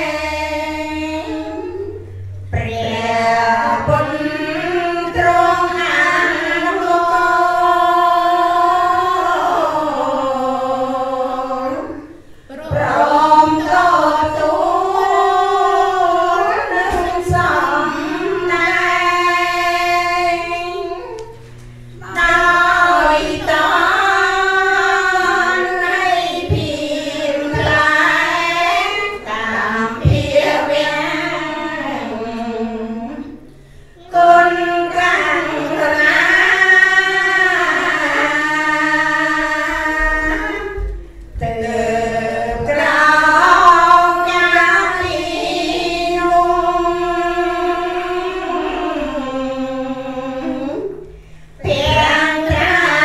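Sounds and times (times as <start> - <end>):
women chanting in unison: 0.0 - 53.0.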